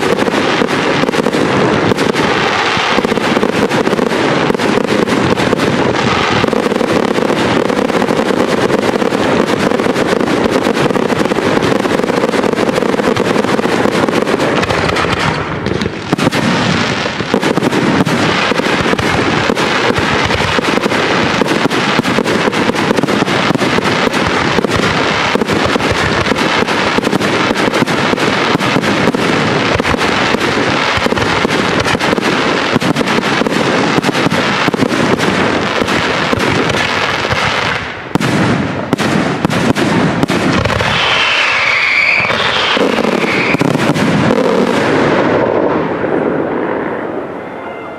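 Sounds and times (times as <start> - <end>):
fireworks bursts and crackling: 0.0 - 47.9.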